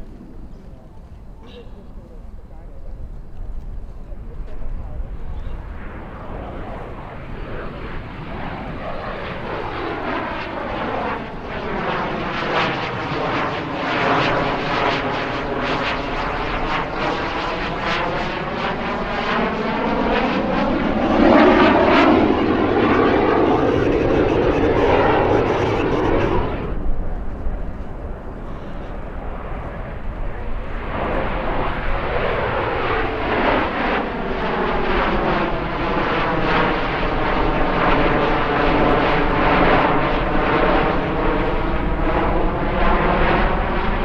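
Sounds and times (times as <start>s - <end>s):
jet aircraft passing by: 0.0s - 44.0s.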